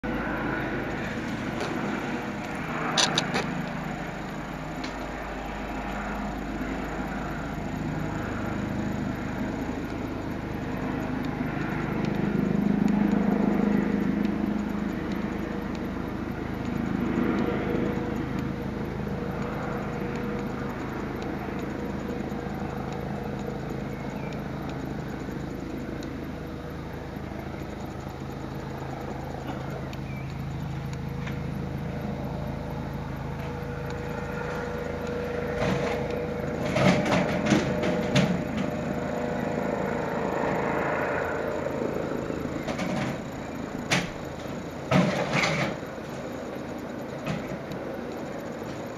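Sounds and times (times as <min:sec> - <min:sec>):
helicopter flying overhead: 0:00.0 - 0:48.9.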